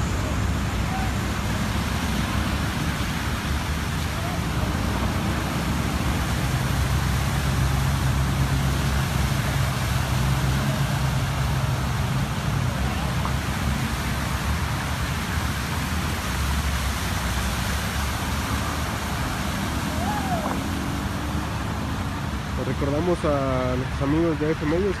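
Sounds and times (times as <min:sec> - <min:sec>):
engine low hum: 0:00.0 - 0:24.8
car engines running: 0:00.0 - 0:25.0
tyres swishing through water: 0:00.0 - 0:25.0.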